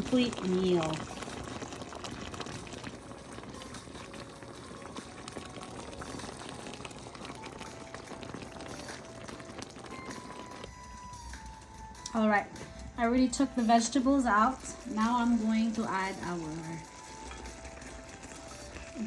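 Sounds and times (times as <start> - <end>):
liquid bubbling in a pan: 0.0 - 19.0.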